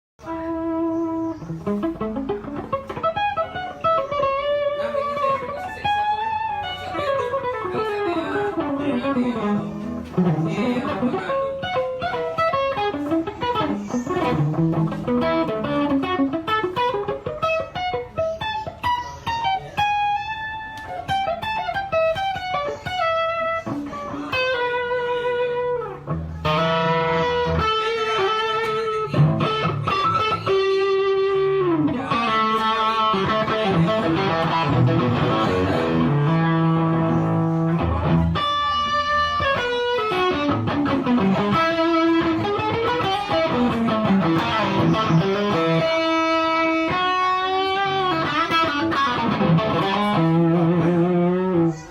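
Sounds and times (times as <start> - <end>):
electric guitar melodic run: 0.2 - 51.9.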